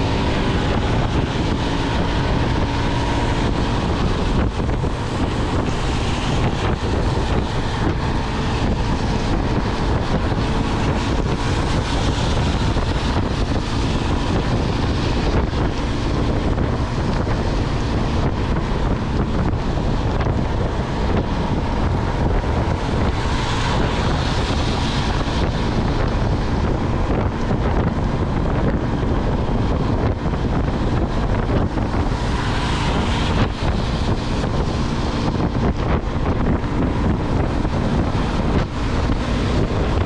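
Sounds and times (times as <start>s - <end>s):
tyres hissing on wet road: 0.0s - 27.1s, 29.0s - 40.0s
wind buffeting microphone: 0.0s - 40.0s.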